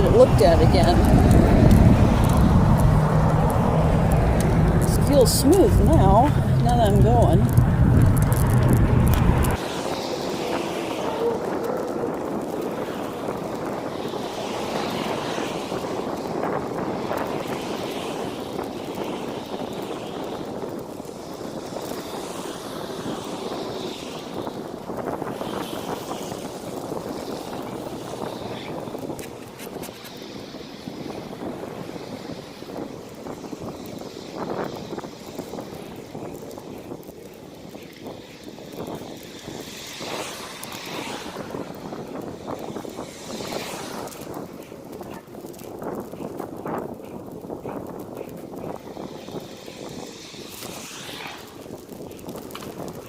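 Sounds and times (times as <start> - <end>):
bicycle tyres on road: 0.0 - 53.0
wind buffeting microphone: 0.0 - 53.0.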